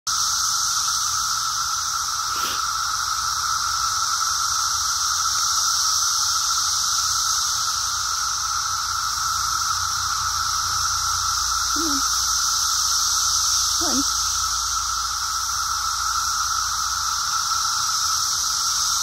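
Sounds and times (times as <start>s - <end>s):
cicadas droning: 0.1s - 19.0s.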